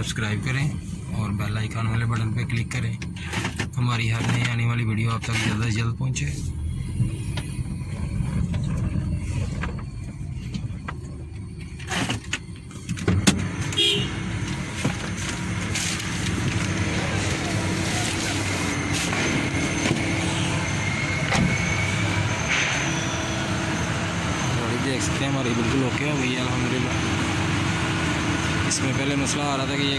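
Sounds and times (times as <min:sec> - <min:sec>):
car engine running: 0:00.0 - 0:29.9
road and wind noise: 0:00.0 - 0:29.9.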